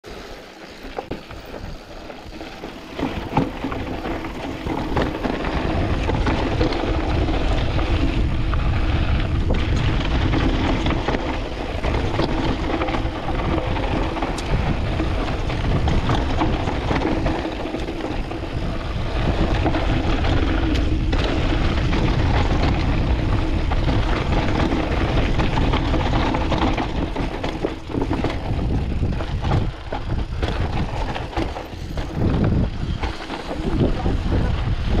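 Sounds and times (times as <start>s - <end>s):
tyres rolling on loose dirt: 0.0s - 35.0s
bike rattling over bumps: 0.1s - 35.0s
wind on microphone: 1.2s - 35.0s.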